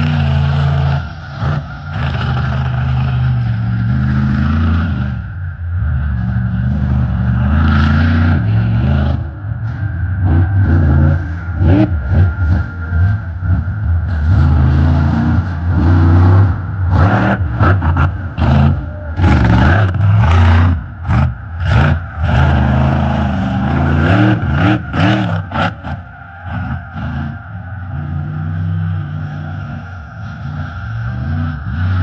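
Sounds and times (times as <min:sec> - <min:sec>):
monster truck engine revving: 0:00.0 - 0:32.0.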